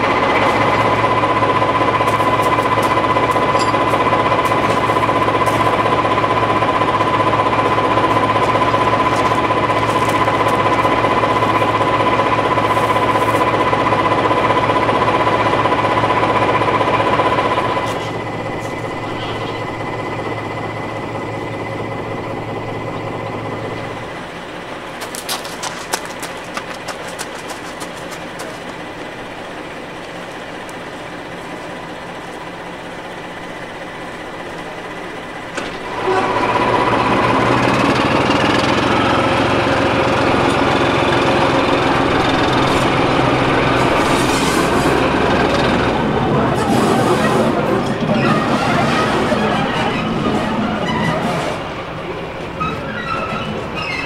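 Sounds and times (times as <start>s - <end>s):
locomotive engine idling with whine: 0.0s - 54.0s.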